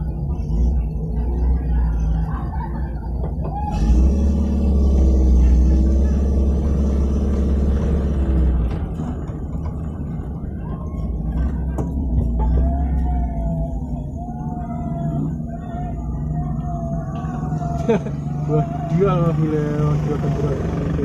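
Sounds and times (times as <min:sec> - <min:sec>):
off-road engine rumbling: 0:00.0 - 0:21.0.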